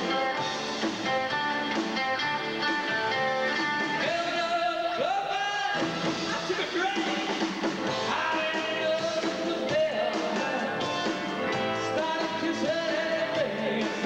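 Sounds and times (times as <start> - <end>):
live rock and roll band: 0.0 - 14.0.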